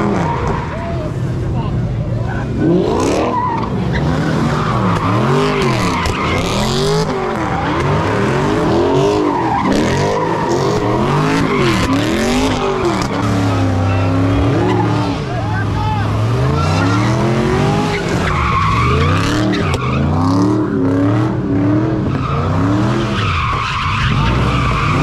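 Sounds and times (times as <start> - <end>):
car engine revving: 0.0 - 25.0
tyres screeching: 3.0 - 20.8, 22.1 - 25.0.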